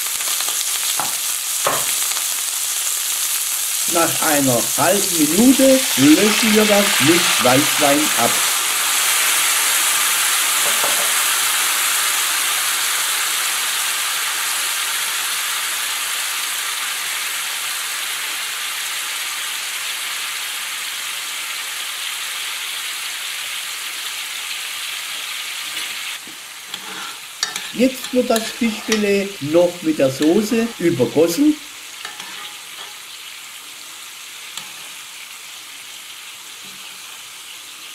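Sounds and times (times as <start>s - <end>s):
fish sizzling in a frying pan: 0.0s - 37.9s.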